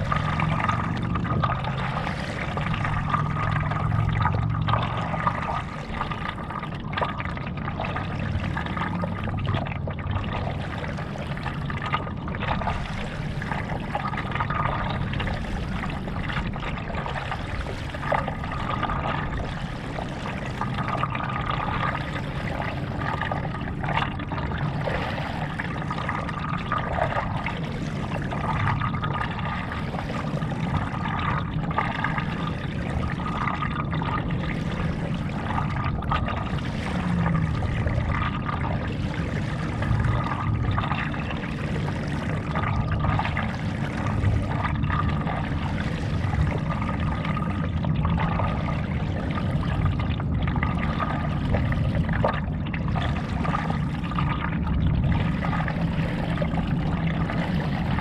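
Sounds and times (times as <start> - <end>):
paddle strokes in water: 0.0 - 50.1
water trickling and splashing: 0.0 - 58.0.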